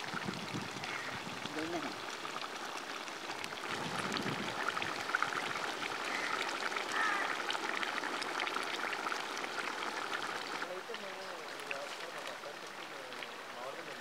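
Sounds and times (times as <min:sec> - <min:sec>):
curry bubbling and crackling: 0:00.0 - 0:14.0.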